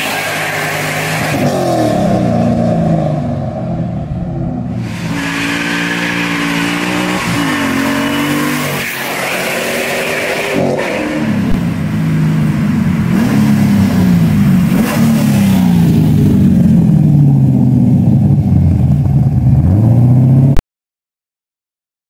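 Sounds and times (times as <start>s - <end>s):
car engine revving: 0.0s - 20.6s.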